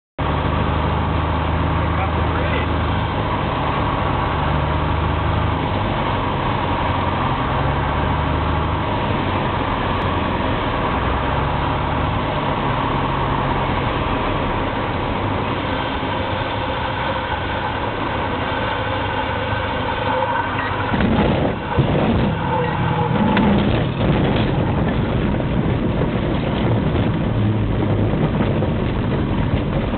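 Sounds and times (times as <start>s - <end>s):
airplane engine and propeller: 0.2s - 29.9s
rough rumble: 0.2s - 29.9s
airflow noise: 0.4s - 29.9s.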